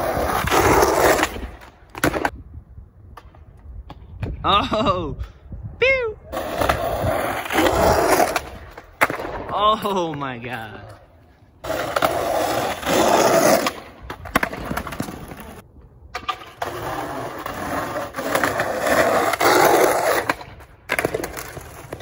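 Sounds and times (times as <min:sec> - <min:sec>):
skateboard wheels rolling on asphalt: 0:00.0 - 0:22.0.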